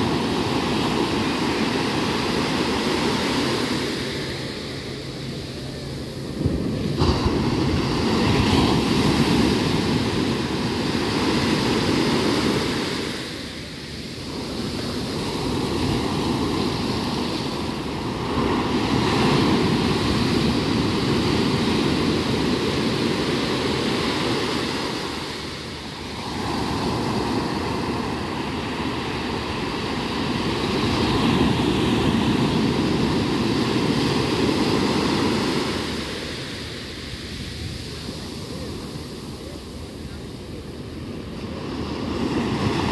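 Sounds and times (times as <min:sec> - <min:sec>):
sea waves breaking on beach: 0:00.0 - 0:42.9.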